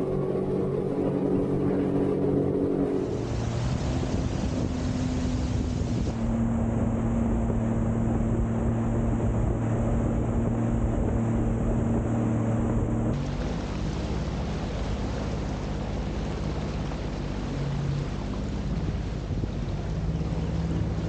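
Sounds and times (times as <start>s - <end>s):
jet ski engine cruising: 0.0s - 21.0s
wind and water rushing: 0.0s - 21.0s.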